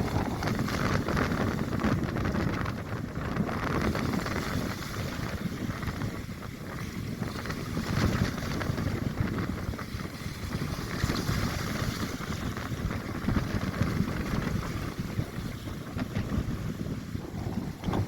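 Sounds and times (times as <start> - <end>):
rough sea: 0.0 - 18.0
wind buffeting microphone: 0.0 - 18.0.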